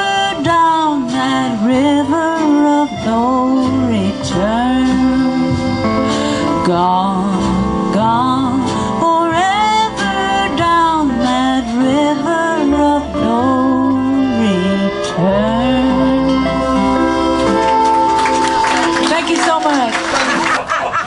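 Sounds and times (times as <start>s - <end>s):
woman singing: 0.0s - 17.6s
electric bass: 0.0s - 19.9s
acoustic guitar: 0.0s - 21.0s.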